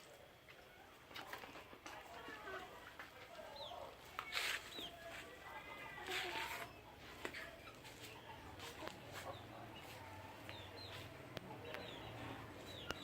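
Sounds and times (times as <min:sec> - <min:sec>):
chickens chirping faintly: 0:00.0 - 0:13.0.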